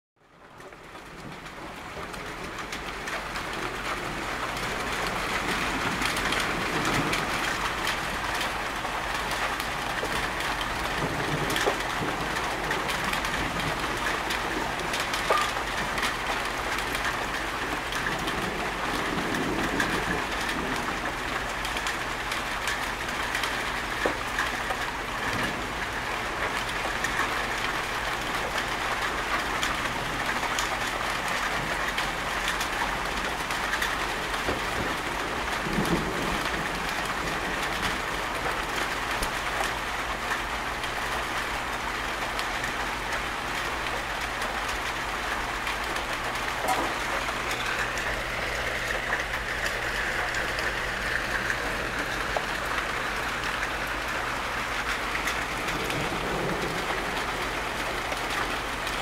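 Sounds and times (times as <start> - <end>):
steady rain falling: 0.2 - 59.0.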